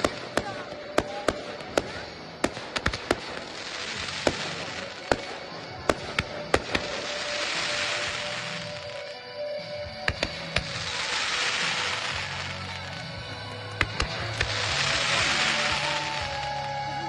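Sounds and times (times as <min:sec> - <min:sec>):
firework shells bursting: 0:00.0 - 0:09.2, 0:10.0 - 0:16.6
hissing crackle: 0:00.0 - 0:17.0.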